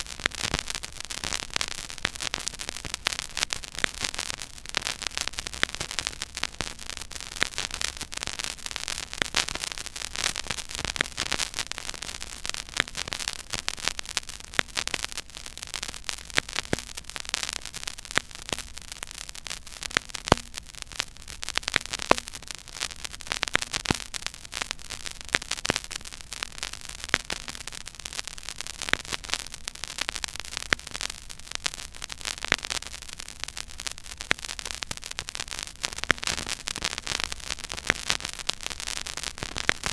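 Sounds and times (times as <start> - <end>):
vinyl crackle and clicks: 0.0 - 39.9
vinyl surface hiss: 0.0 - 39.9.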